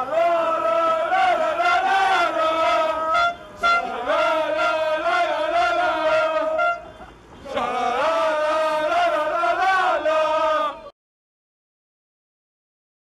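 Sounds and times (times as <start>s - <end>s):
men chanting and singing: 0.0s - 10.9s.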